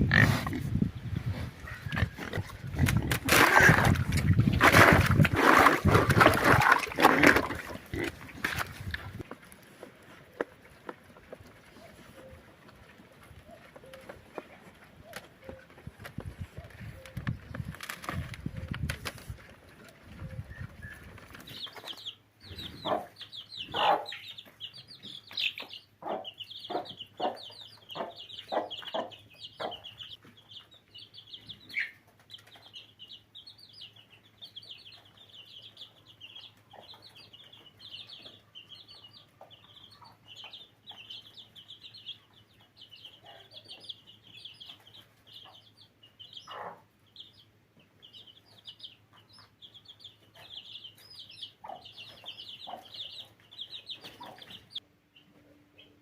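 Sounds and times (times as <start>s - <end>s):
chickens clucking: 0.0s - 33.3s, 33.9s - 56.0s
chicks peeping: 0.0s - 56.0s.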